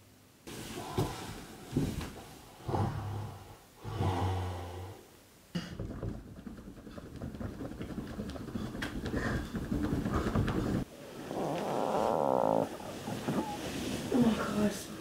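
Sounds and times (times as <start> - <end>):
soft rough noise: 0.5 - 15.0.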